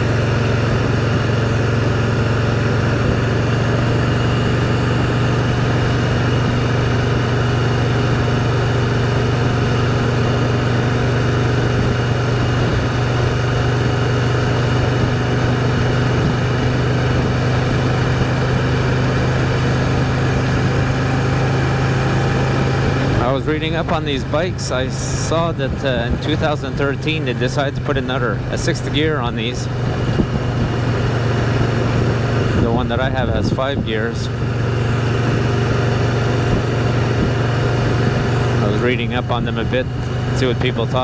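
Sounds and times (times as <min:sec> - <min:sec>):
motorcycle engine cruising: 0:00.0 - 0:41.0.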